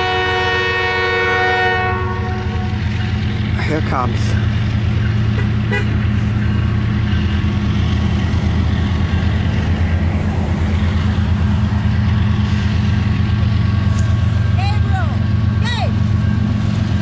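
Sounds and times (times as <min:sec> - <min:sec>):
locomotive engines droning: 0:00.0 - 0:17.0.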